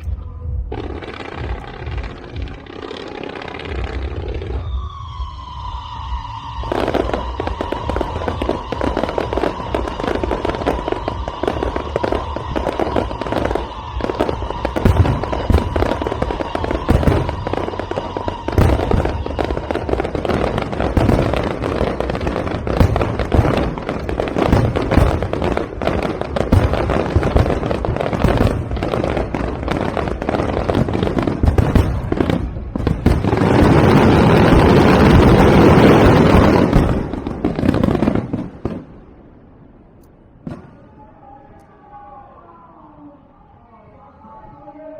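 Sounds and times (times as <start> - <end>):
firework high whistle: 0.0 - 38.8
fireworks bangs and crackles: 0.0 - 41.0.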